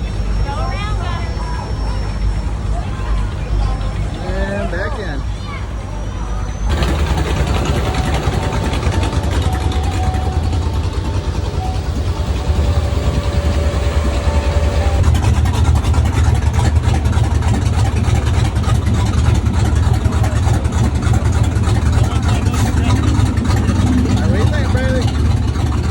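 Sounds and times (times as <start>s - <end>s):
large engine idling: 0.0s - 25.9s.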